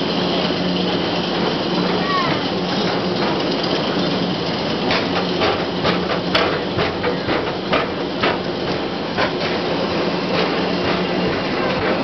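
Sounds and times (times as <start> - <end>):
low hum and rumble: 0.0 - 12.0
roller coaster rattling on track: 0.0 - 12.0.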